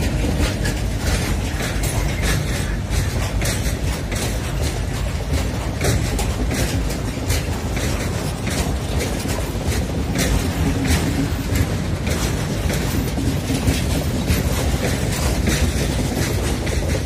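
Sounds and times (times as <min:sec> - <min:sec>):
sharp clicks and knocks: 0:00.0 - 0:17.0
train wheels rumbling on rails: 0:00.0 - 0:17.0.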